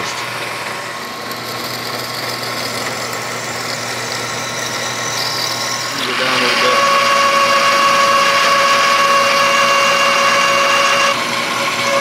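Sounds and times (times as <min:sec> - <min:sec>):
milling machine spindle running: 0:00.0 - 0:12.0.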